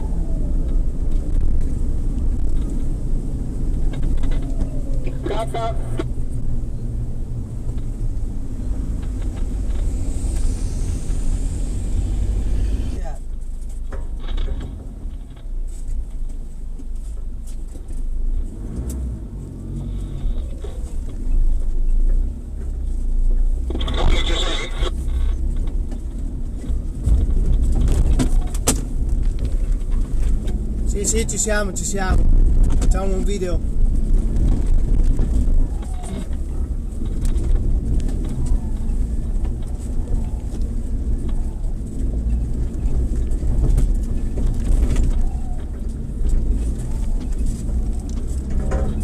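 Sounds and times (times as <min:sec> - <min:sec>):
off-road vehicle rumbling: 0:00.0 - 0:49.0.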